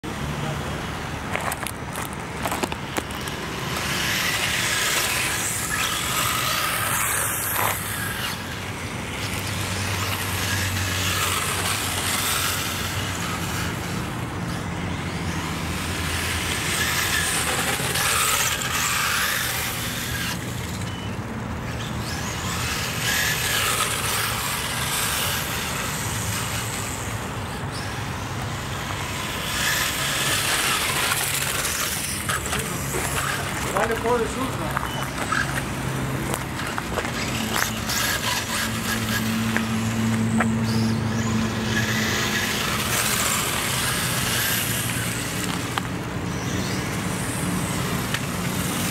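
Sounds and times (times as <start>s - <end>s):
remote-control cars passing: 0.0s - 48.9s.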